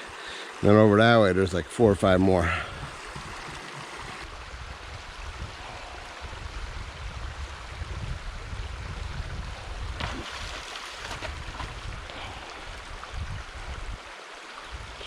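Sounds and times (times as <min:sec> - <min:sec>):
mountain stream flowing: 0:00.0 - 0:15.0.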